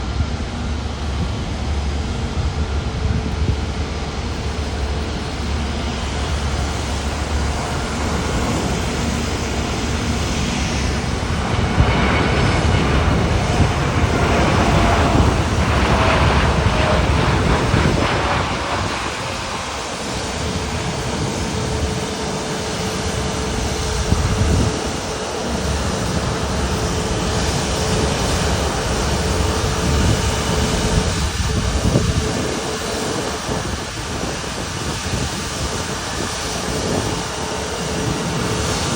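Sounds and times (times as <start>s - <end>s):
jet engines rumbling: 0.0s - 38.9s
wind buffeting microphone: 0.0s - 38.9s.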